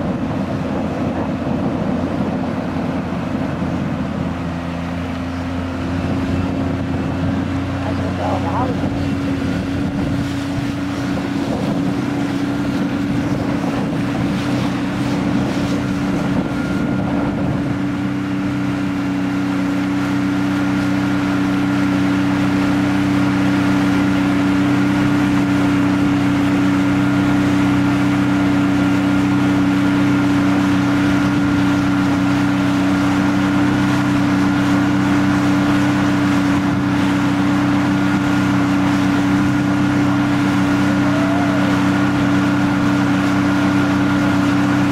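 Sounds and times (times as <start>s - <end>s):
outboard motor running: 0.0s - 44.9s
water rushing past hull: 0.0s - 44.9s
wind buffeting microphone: 0.0s - 44.9s.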